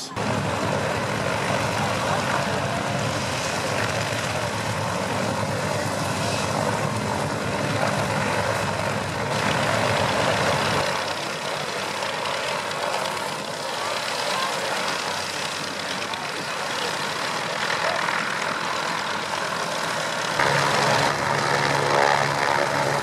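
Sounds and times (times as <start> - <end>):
radial engine idling: 0.0 - 23.0.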